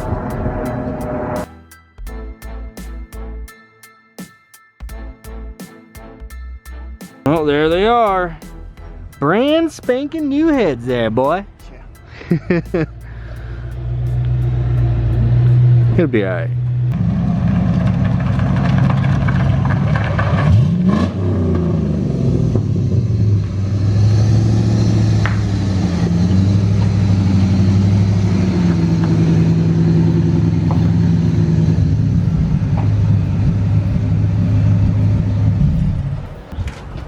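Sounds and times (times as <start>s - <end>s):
vehicle engine running: 0.0s - 1.5s, 7.6s - 37.0s.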